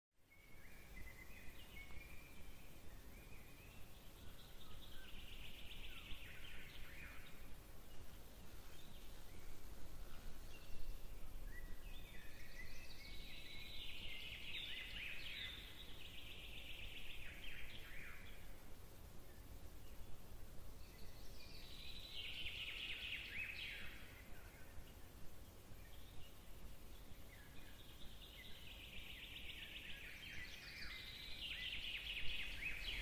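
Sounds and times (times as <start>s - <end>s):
songbirds singing: 0.2s - 33.0s.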